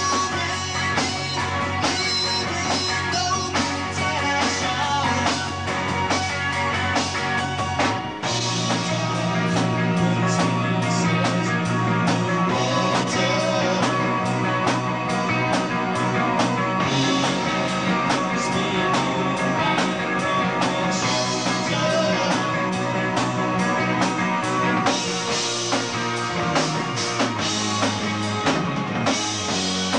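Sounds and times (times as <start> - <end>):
busy drumming: 0.0 - 29.9
live rock band playing: 0.0 - 29.9.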